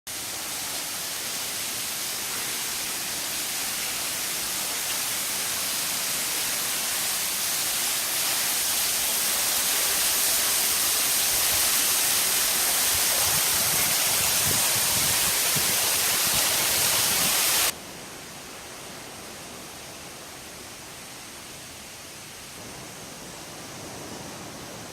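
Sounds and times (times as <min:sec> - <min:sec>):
waterfall hissing: 0:00.1 - 0:24.9.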